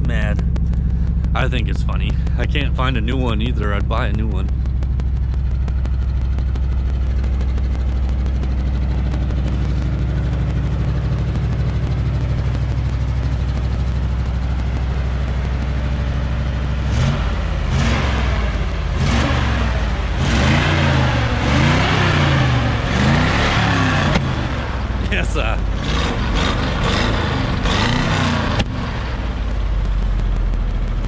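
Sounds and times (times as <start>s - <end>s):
truck engine idling and revving: 0.0s - 31.0s.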